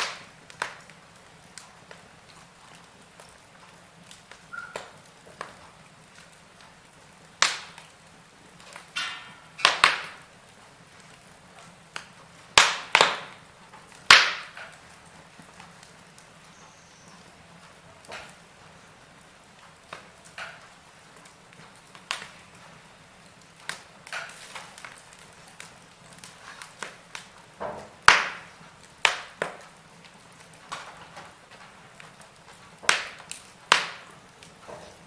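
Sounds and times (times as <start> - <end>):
faint steady hiss: 0.0 - 35.0
wood fire crackling and popping: 0.0 - 35.0.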